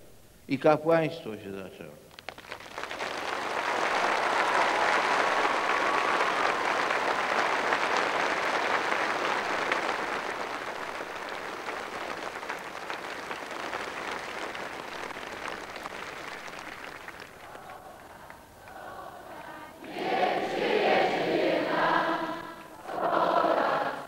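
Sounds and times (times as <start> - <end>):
large crowd applauding: 2.1 - 24.0.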